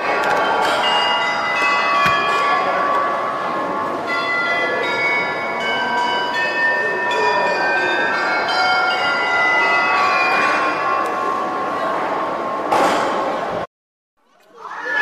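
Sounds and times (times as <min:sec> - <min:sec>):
background hubbub: 0:00.0 - 0:15.0.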